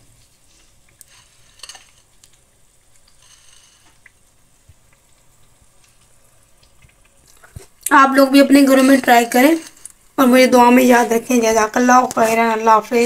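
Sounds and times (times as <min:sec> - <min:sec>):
frying oil sizzling: 0:00.0 - 0:13.0.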